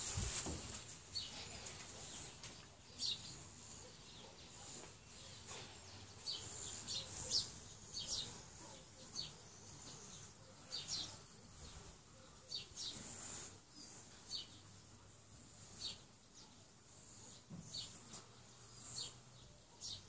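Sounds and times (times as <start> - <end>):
birds chirping: 0.4 - 20.0.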